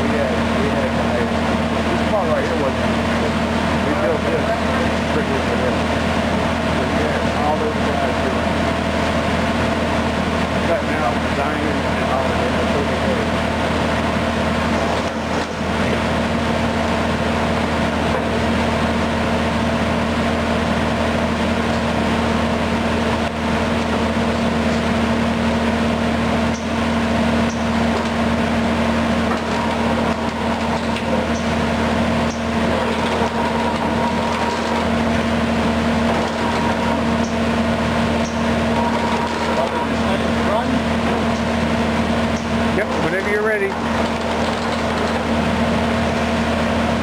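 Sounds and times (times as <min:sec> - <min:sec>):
punch press machine hum: 0:00.0 - 0:47.0.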